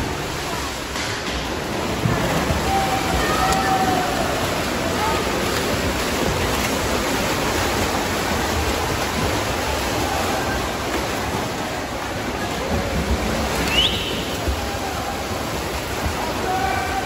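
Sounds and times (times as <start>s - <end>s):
water rushing in swimming pool: 0.0s - 17.0s.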